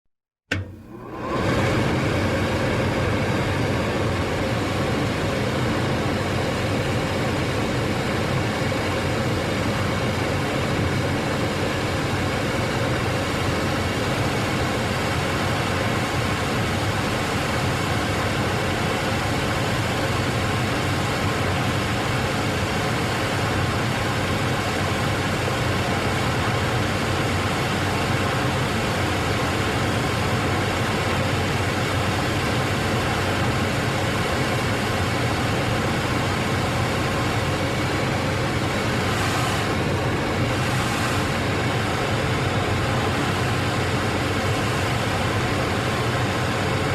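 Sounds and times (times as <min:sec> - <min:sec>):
exhaust fan running: 0:00.5 - 0:46.9.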